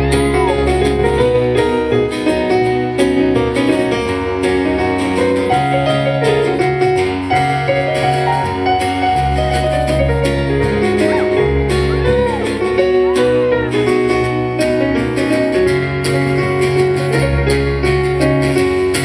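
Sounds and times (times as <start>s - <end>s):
bass line: 0.0s - 19.0s
live band playing: 0.0s - 19.0s
piano: 0.0s - 19.0s.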